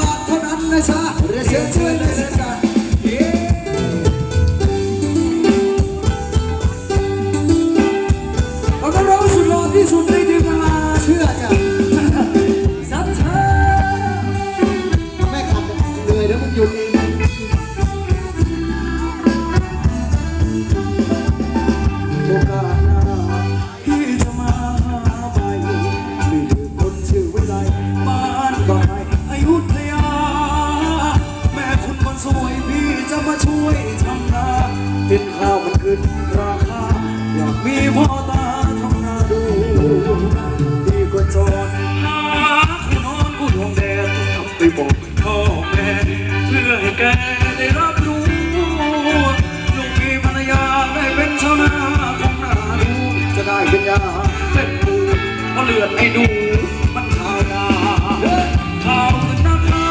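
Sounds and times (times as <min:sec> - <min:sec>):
live band playing dance music: 0:00.0 - 0:59.9
person singing: 0:00.0 - 0:59.9
steady drum beat: 0:00.0 - 0:59.9.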